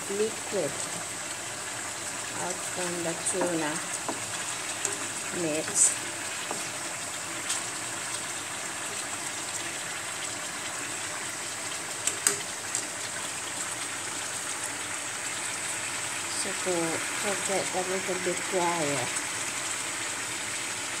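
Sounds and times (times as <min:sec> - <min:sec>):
fish sizzling in a pan: 0:00.0 - 0:21.0.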